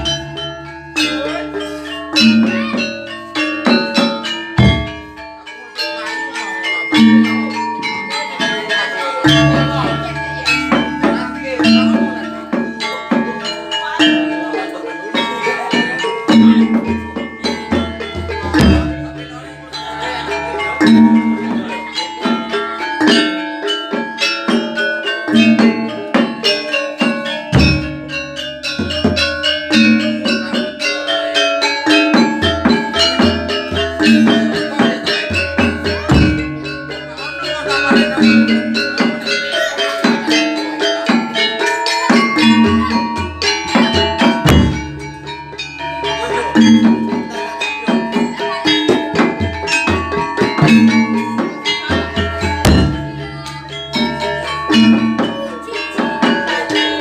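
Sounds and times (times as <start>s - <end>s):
drum beats: 0.0s - 57.0s
gamelan ensemble playing: 0.0s - 57.0s.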